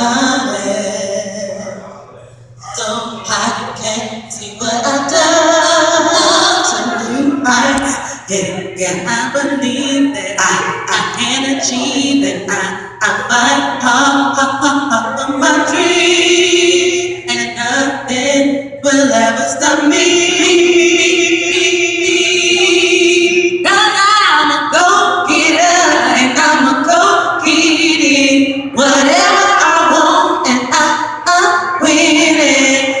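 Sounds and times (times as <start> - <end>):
voices singing in harmony: 0.0 - 33.0.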